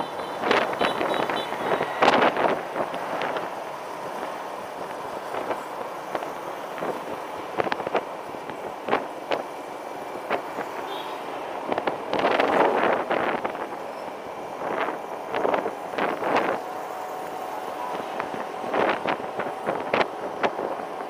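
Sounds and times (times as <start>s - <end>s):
scooter road noise: 0.0s - 21.0s
wind rushing over microphone: 0.0s - 21.0s.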